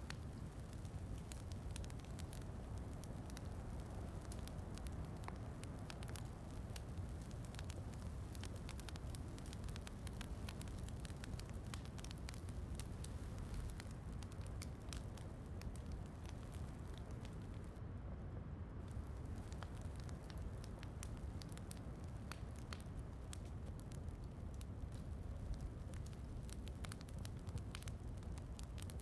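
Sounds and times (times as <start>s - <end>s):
wood fire crackling: 0.0s - 17.8s, 18.8s - 29.0s.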